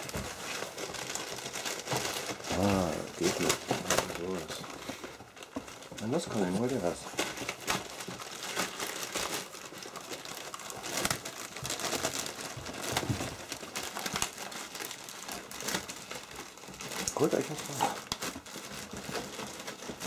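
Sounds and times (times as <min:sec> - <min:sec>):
plastic zip bag crinkling: 0:00.0 - 0:20.0.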